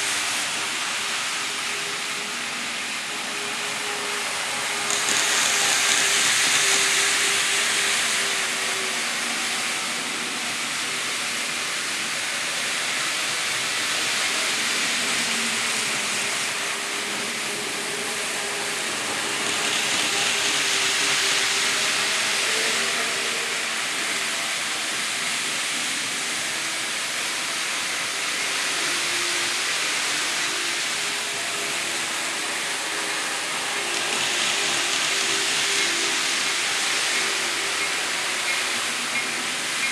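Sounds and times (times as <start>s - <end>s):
model train whirring on track: 0.0s - 39.9s.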